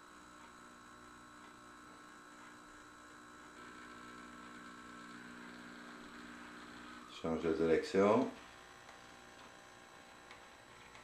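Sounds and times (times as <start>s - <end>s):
model train motor whine: 0.0s - 11.0s.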